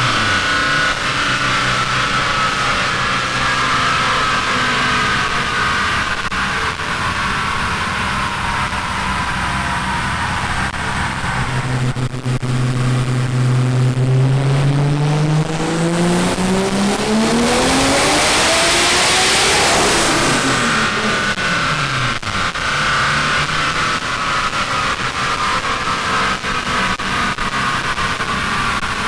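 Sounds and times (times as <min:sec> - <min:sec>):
car engine revving on dyno: 0:00.0 - 0:29.0.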